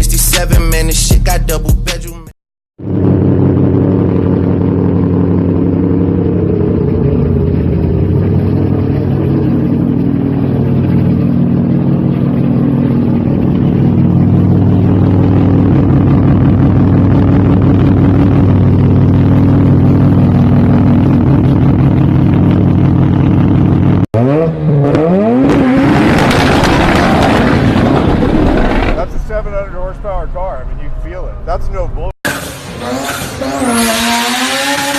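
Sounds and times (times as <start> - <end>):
rotary engine exhaust: 2.8 - 34.9.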